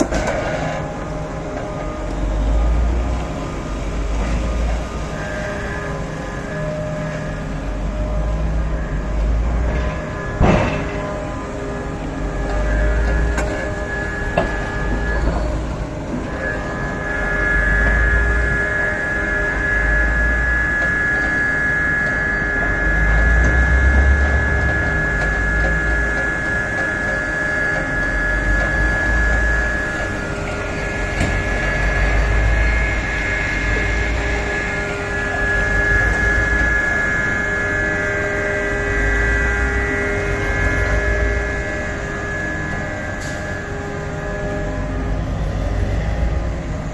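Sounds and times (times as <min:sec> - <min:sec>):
excavator engine and hydraulics: 0:00.0 - 0:46.9.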